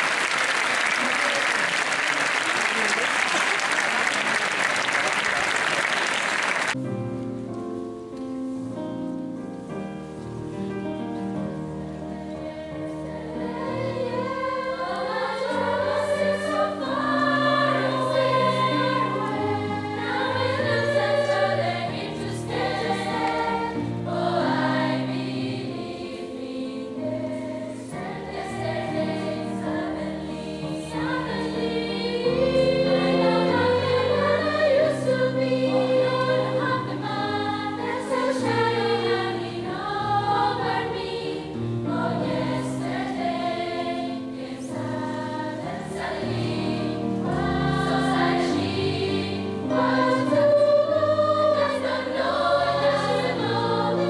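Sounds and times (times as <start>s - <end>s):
children's choir singing: 0.0s - 3.0s, 4.2s - 6.8s, 10.5s - 54.0s.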